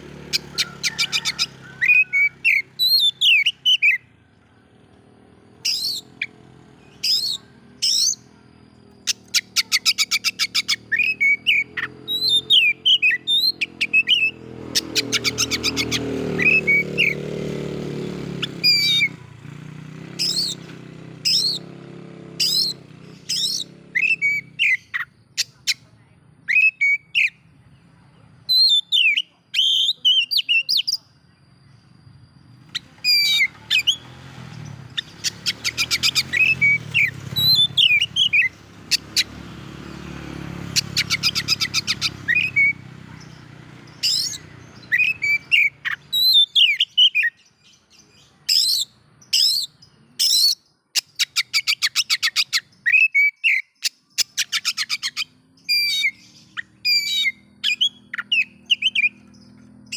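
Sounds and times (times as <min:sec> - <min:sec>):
bird whistling and chirping: 0:00.3 - 0:04.1, 0:05.6 - 0:17.4, 0:18.4 - 0:19.2, 0:20.2 - 0:21.7, 0:22.4 - 0:25.6, 0:26.5 - 0:27.4, 0:28.5 - 0:31.1, 0:32.6 - 0:39.3, 0:40.7 - 0:59.9.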